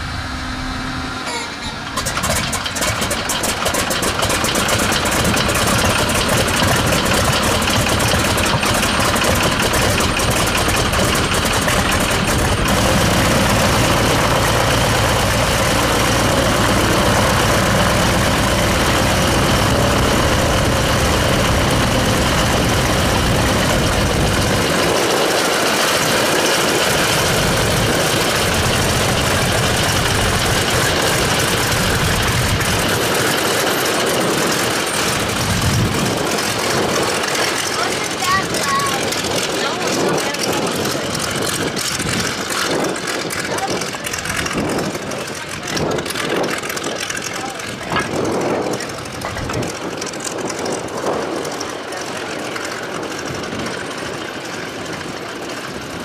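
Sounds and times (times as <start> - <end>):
radial aircraft engine idling: 0.0 - 56.0.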